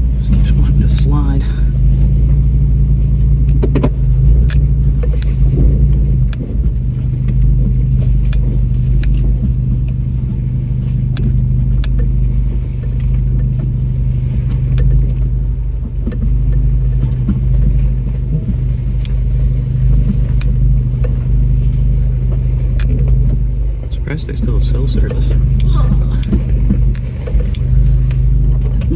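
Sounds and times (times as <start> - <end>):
truck engine running: 0.0 - 28.9
truck body clicks and knocks: 3.3 - 28.9.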